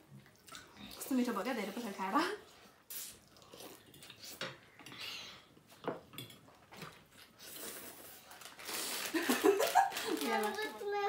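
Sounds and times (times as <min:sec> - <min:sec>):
soft eating noises: 0:00.0 - 0:11.0.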